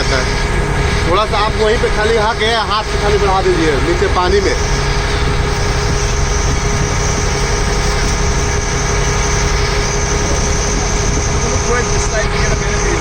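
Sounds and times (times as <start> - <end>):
ferry engine rumble: 0.0 - 13.0.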